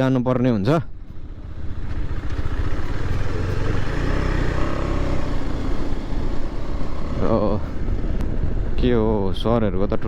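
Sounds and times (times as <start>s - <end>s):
motorcycle engine running: 0.9s - 9.6s.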